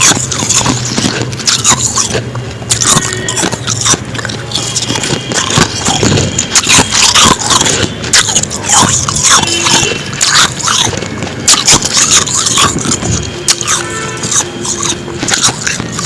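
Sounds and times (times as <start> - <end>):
ice being chewed: 0.0 - 16.0.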